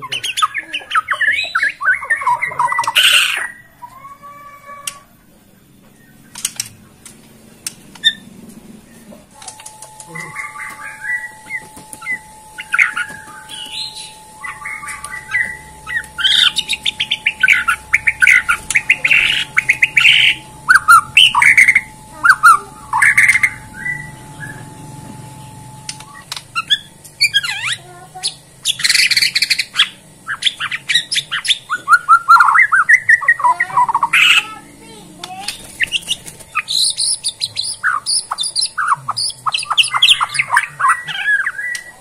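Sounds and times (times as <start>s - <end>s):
bird singing: 0.0s - 42.0s
faint steady hum: 0.0s - 42.0s.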